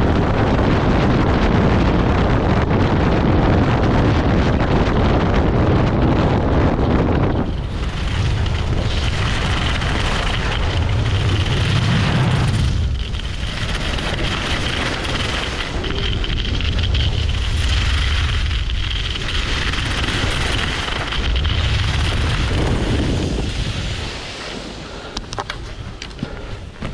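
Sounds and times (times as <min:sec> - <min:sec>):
wind buffeting microphone: 0:00.0 - 0:26.9
skis scraping on snow: 0:04.8 - 0:26.9.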